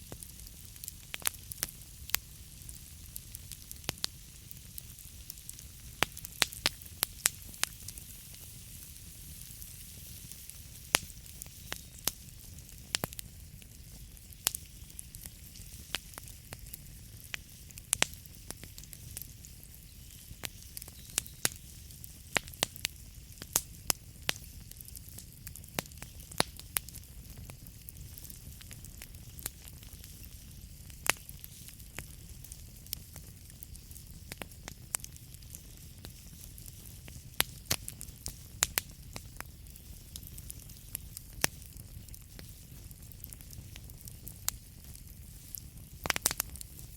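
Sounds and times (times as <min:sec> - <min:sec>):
flames rumbling and hissing: 0:00.0 - 0:46.9
logs crackling and popping: 0:00.0 - 0:46.9.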